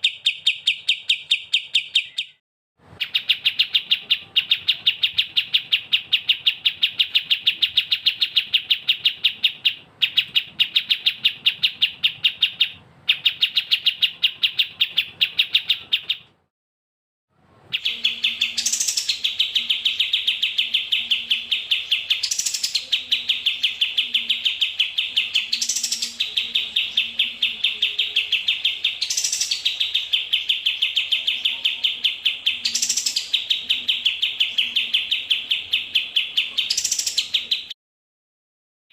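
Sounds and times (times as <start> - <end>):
songbird chirping: 0.0 - 16.5, 17.5 - 37.8.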